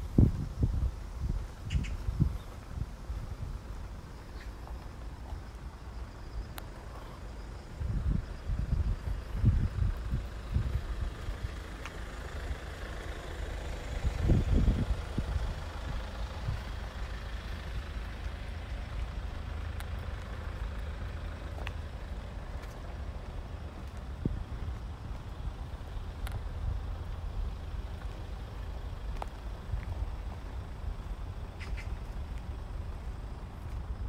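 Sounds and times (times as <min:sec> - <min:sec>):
low rumble of passing vehicles: 0:00.0 - 0:34.0.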